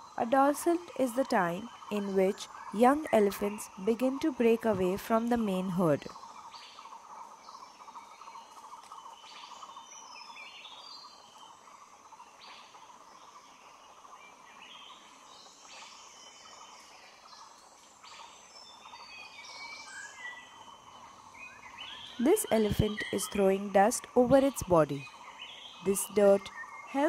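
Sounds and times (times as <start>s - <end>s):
forest birds chirping: 0.0s - 27.0s.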